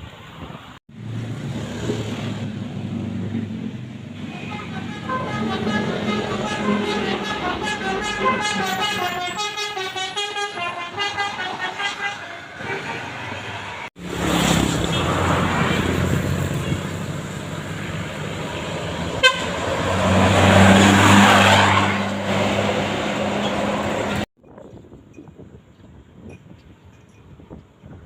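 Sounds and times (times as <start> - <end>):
bus passing by: 0.1 - 24.3.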